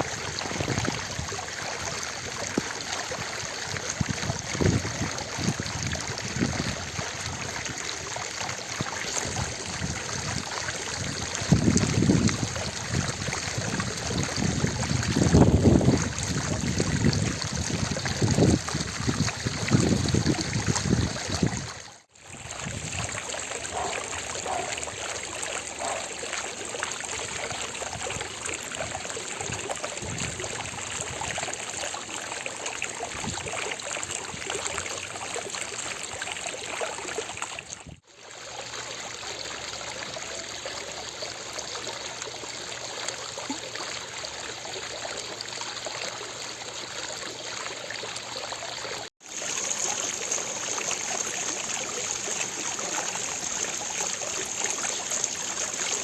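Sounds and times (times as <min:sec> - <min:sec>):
fountain splashing and trickling: 0:00.0 - 0:56.0.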